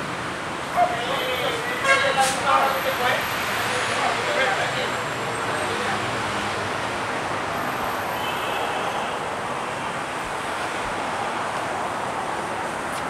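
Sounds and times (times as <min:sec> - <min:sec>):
city traffic hum: 0:00.0 - 0:13.0.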